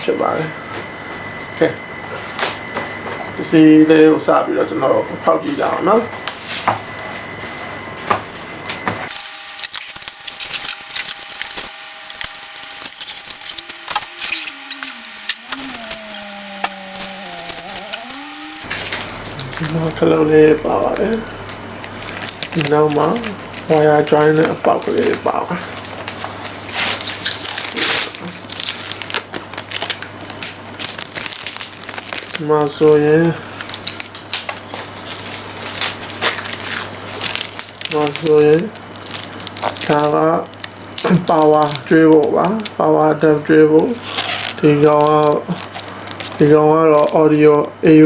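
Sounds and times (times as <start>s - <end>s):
packaging crackling and rustling: 9.1s - 47.7s.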